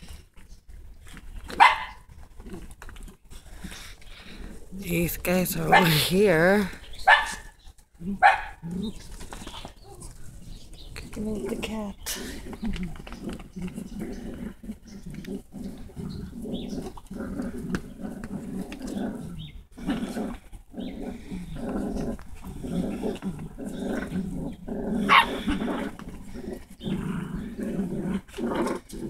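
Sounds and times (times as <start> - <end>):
puppies growling: 0.0 - 29.0.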